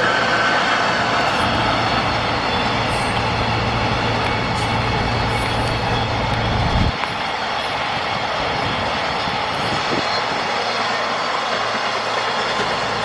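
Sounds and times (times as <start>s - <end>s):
freight train rumbling past: 0.0s - 13.0s
locomotive electric hum: 0.0s - 13.0s.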